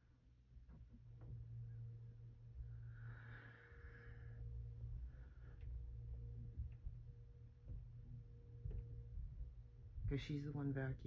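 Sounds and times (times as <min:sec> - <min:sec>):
muffled vacuum cleaner hum: 0:00.0 - 0:11.0.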